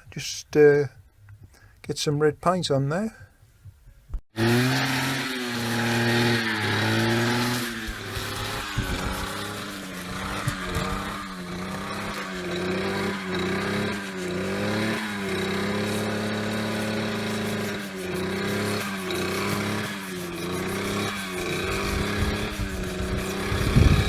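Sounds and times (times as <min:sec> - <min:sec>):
engine humming: 0:04.7 - 0:24.0.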